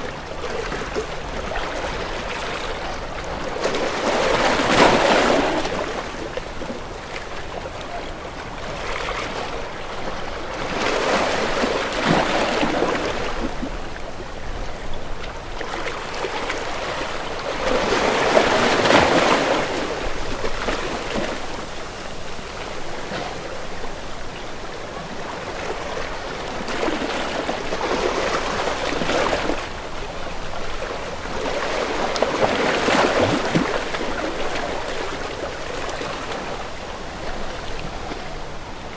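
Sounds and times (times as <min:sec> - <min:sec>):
sea waves sloshing: 0:00.0 - 0:38.9.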